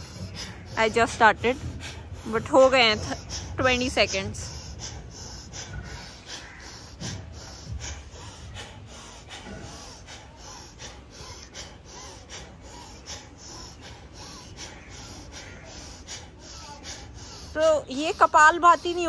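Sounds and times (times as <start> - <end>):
woman breathing rapidly: 0.0 - 19.0.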